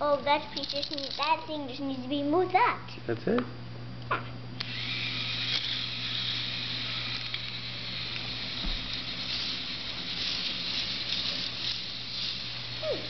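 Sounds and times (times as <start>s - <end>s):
motor hum: 0.0s - 13.0s.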